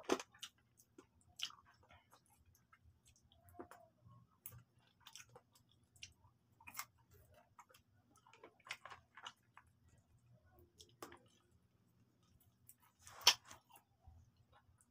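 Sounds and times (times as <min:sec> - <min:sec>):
person chewing food: 0:00.0 - 0:14.9.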